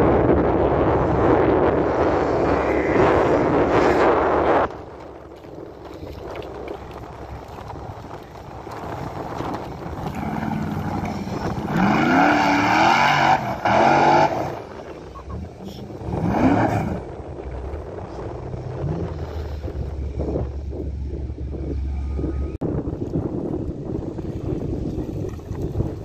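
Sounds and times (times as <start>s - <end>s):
buggy engine running hard: 0.0s - 26.0s.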